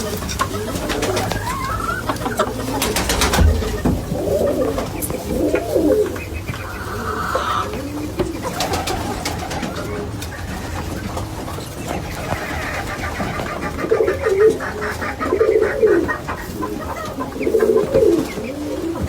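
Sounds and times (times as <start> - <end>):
chicken making low wavering calls: 0.0 - 19.0.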